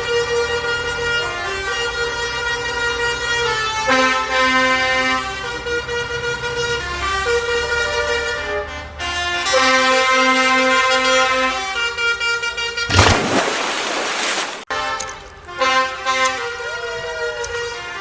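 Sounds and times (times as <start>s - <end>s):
layered horn-like chords: 0.0s - 5.8s, 6.6s - 13.0s, 14.7s - 18.0s.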